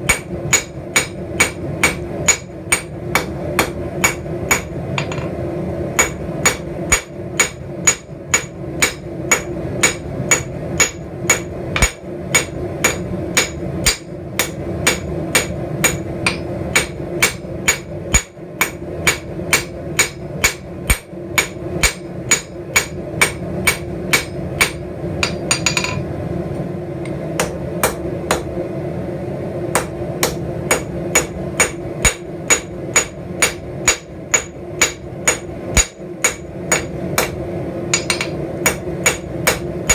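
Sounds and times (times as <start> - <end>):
hammer striking steel on anvil: 0.0 - 5.4, 6.0 - 26.0, 27.1 - 28.5, 29.8 - 39.9
steady low hum: 0.0 - 39.9.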